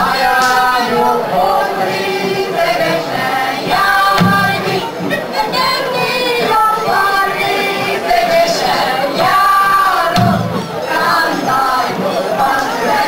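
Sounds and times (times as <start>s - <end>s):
group singing folk song: 0.0s - 13.0s.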